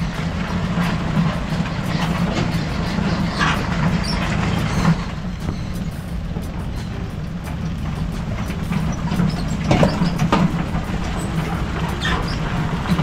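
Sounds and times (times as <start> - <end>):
small train rumbling on track: 0.0 - 13.0.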